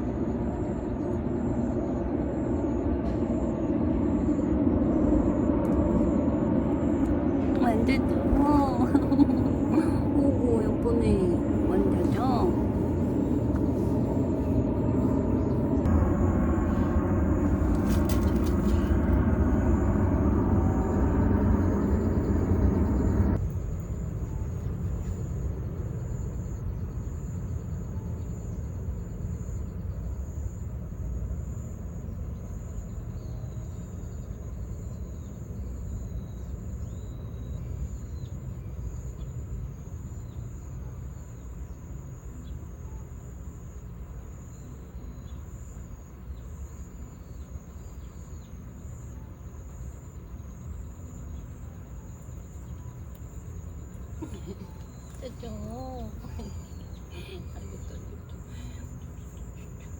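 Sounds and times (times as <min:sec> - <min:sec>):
insects trilling: 0:00.0 - 0:59.9
low steady rumble: 0:00.0 - 0:59.9.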